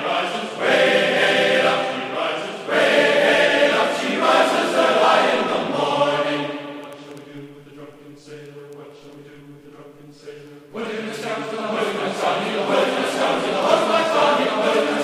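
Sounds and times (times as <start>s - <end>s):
choral chords music: 0.0s - 15.0s.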